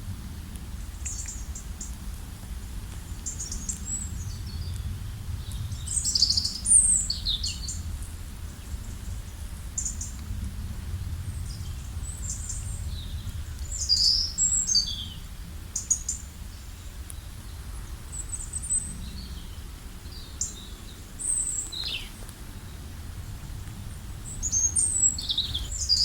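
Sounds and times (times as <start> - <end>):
steady low rumble: 0.0 - 26.0
small birds chirping: 0.8 - 2.0, 2.9 - 7.9, 11.2 - 26.0.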